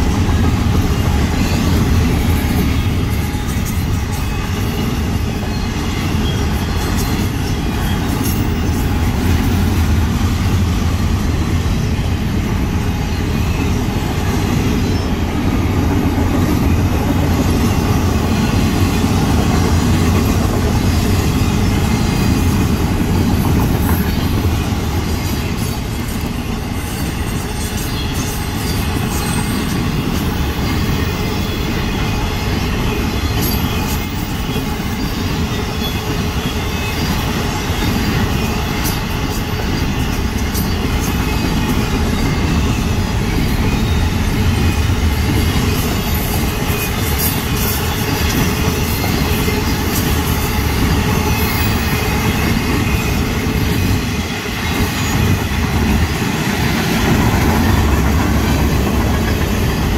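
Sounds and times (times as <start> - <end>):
freight train wheels rumbling on rail: 0.0 - 59.9
rail clicks: 0.0 - 59.9.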